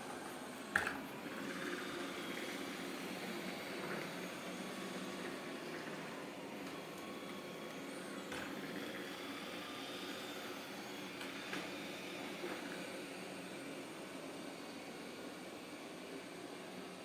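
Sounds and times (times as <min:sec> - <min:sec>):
robot vacuum motor whirring: 0:00.7 - 0:15.9.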